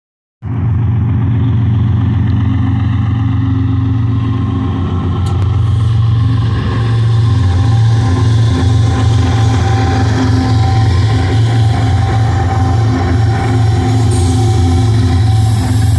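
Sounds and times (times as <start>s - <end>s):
diesel locomotive engine drone: 0.4s - 15.9s.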